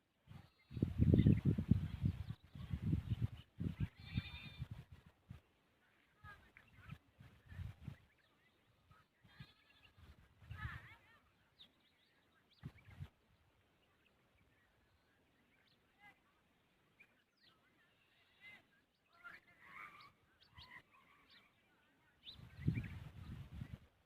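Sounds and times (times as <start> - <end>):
faint bird chirps: 0.3 - 23.9.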